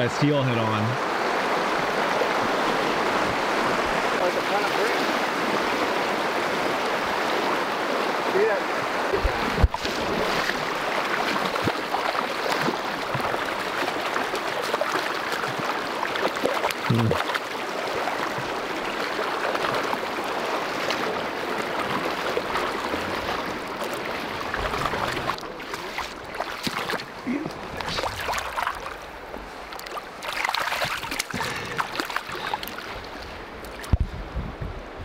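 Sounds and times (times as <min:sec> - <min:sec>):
river water rushing over stones: 0:00.0 - 0:34.1.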